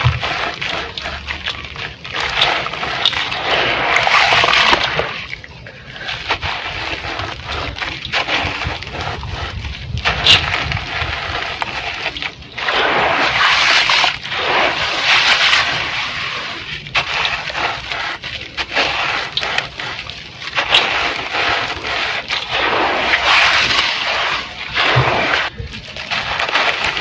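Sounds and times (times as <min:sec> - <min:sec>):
sand-cement crumbling in water: 0:00.0 - 0:27.0.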